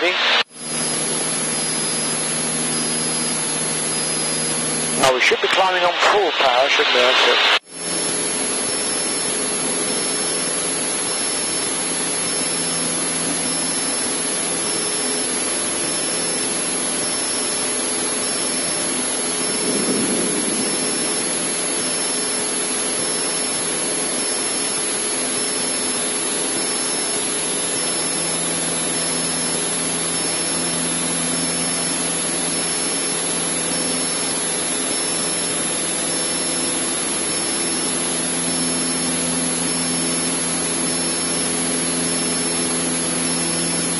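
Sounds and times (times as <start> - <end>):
airplane engine and propeller drone: 0.0 - 43.9.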